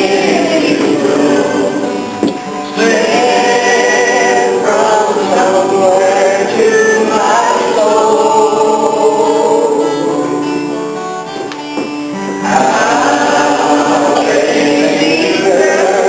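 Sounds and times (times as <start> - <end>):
group singing gospel song: 0.0 - 11.0, 12.4 - 16.0.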